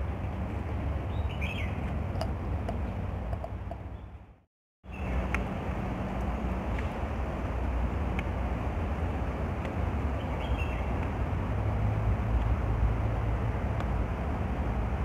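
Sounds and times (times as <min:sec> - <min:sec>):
traffic rumble with low hum: 0:00.0 - 0:15.0.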